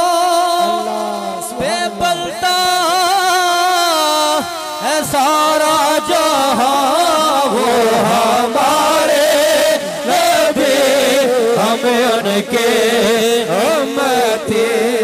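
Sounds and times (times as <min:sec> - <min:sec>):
voices chanting devotional refrain: 0:00.0 - 0:15.0.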